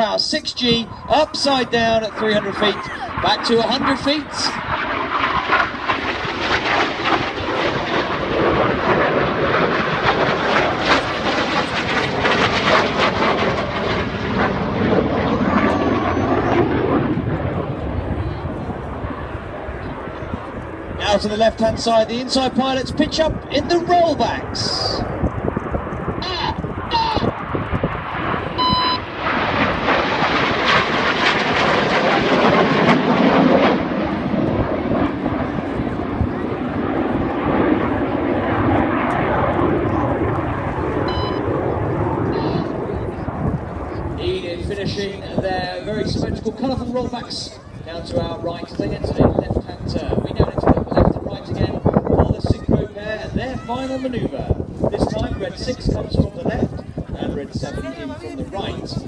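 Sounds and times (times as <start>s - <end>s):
loud jet roar: 0.0s - 59.0s.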